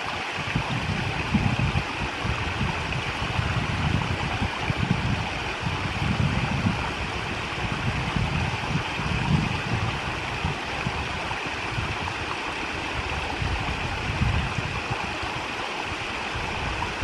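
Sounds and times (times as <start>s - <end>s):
brook babbling over stones: 0.0s - 17.0s.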